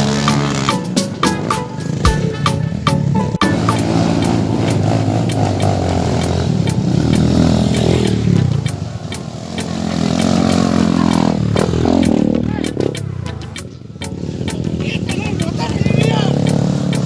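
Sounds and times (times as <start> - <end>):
off-road vehicle engine revving: 0.0 - 17.0
steady ticking beat: 0.0 - 17.0.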